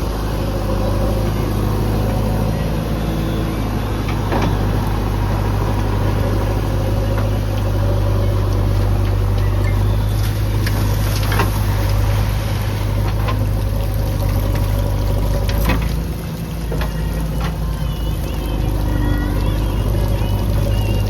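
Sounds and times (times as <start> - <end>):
large diesel engine running: 0.0 - 21.0.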